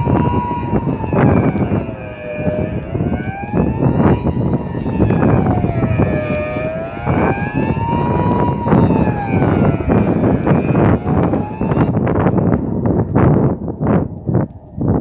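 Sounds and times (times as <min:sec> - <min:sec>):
wailing warning siren: 0:00.0 - 0:15.0
wind rumble on microphone: 0:00.0 - 0:15.0.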